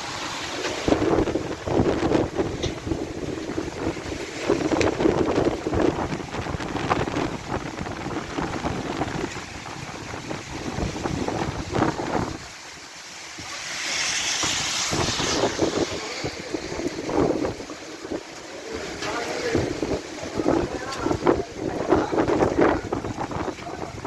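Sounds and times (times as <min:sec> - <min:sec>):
heavy rain: 0:00.0 - 0:24.0
wind buffeting microphone: 0:00.6 - 0:24.0.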